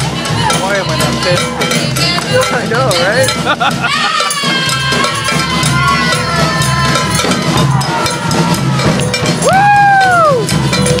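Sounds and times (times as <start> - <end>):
drums and cowbell beat: 0.0 - 11.0.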